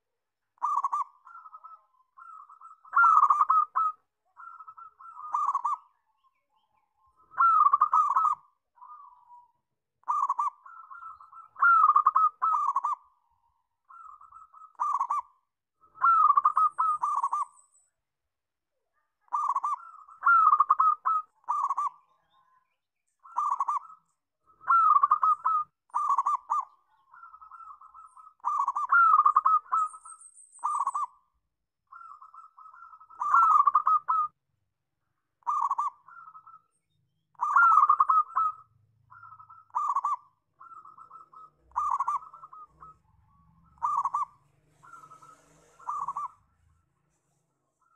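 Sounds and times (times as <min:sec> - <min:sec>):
dove cooing: 0:00.6 - 0:05.9, 0:07.1 - 0:17.6, 0:19.2 - 0:22.2, 0:23.2 - 0:31.3, 0:31.9 - 0:34.4, 0:35.4 - 0:36.7, 0:37.3 - 0:46.8.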